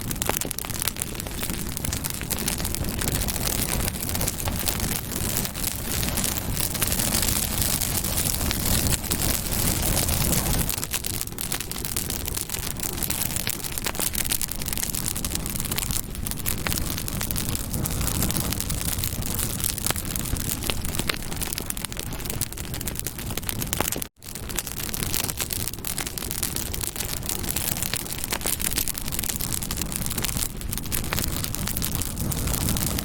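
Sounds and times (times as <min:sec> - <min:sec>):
hiss of flames: 0:00.0 - 0:33.0
wood crackling and popping: 0:00.0 - 0:33.0.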